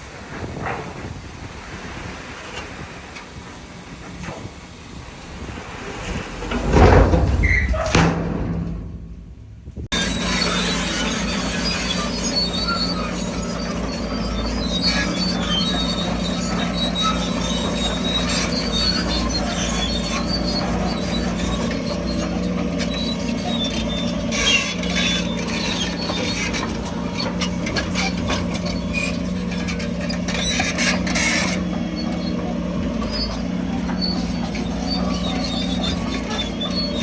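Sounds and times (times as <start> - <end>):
diesel engine running: 0.0 - 37.0
steel tracks squealing and clanking: 0.0 - 37.0
grinding noise bursts: 6.1 - 37.0.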